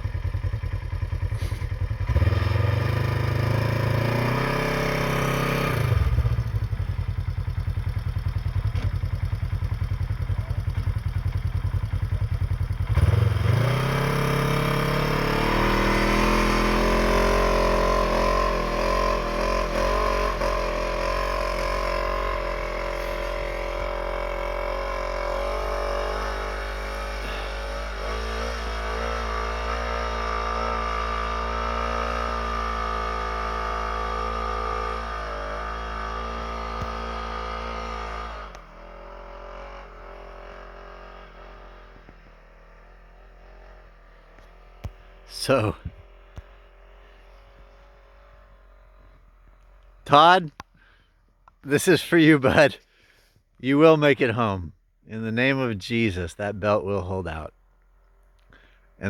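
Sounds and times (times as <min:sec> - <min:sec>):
snowmobile engine revving: 0:00.0 - 0:51.0, 0:51.6 - 0:57.5.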